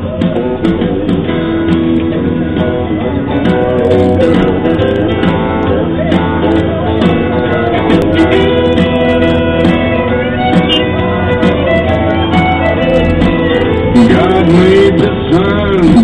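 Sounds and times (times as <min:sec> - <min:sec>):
guitar intro music: 0:00.0 - 0:16.0.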